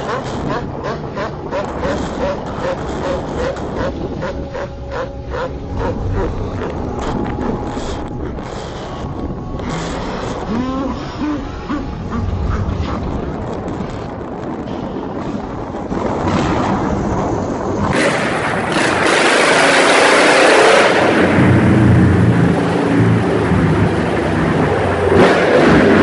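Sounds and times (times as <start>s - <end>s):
motorbike engines running: 0.0s - 26.0s
road noise: 0.0s - 26.0s
wind noise on microphone: 0.0s - 26.0s.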